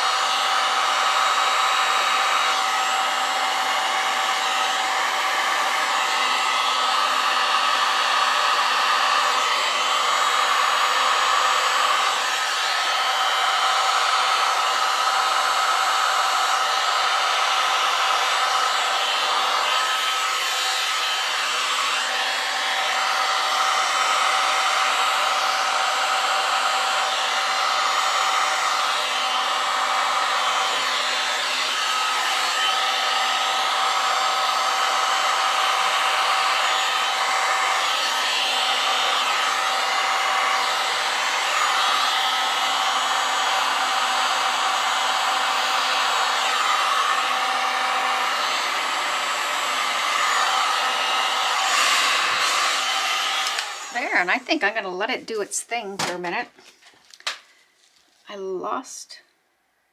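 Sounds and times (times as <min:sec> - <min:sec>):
heat gun blowing: 0:00.0 - 0:57.6.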